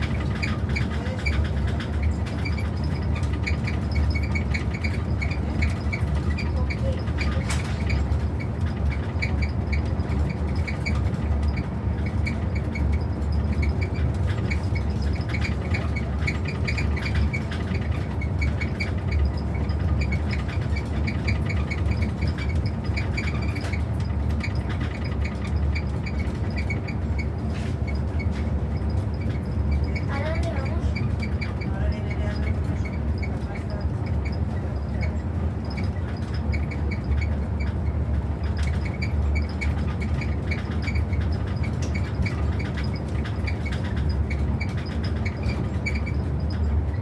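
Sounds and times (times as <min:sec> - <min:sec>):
rapid clicks and rattles: 0:00.0 - 0:47.0
train rumbling: 0:00.0 - 0:47.0.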